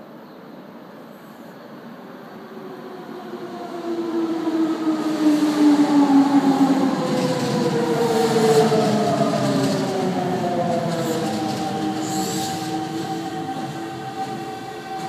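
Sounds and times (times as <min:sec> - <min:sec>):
wheels rumbling on rails: 0:02.9 - 0:15.0.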